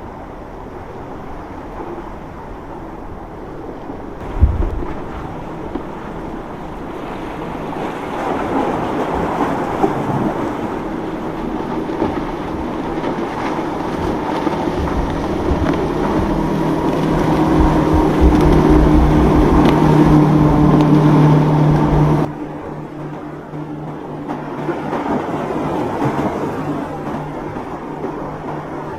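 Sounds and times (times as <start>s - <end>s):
boat engine hum: 0.0s - 28.9s
water: 0.0s - 28.9s
wind: 0.0s - 28.9s.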